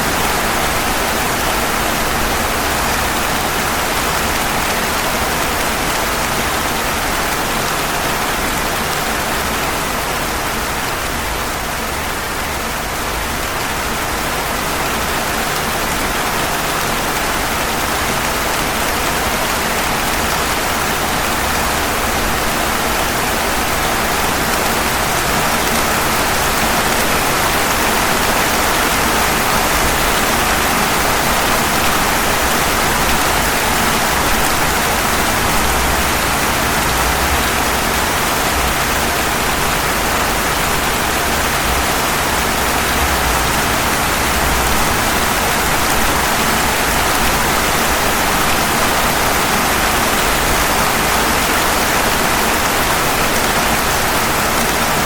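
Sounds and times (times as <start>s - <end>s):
rain falling on pavement: 0.0s - 55.0s.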